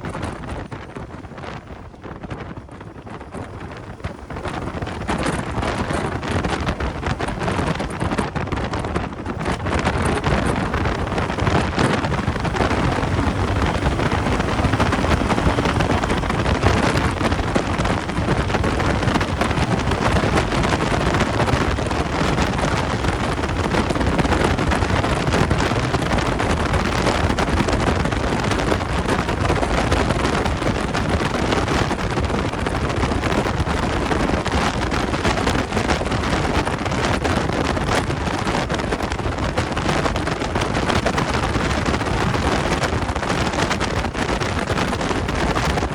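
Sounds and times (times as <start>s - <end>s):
motorcycle running noise: 0.0s - 45.9s
wind rush on microphone: 0.0s - 45.9s.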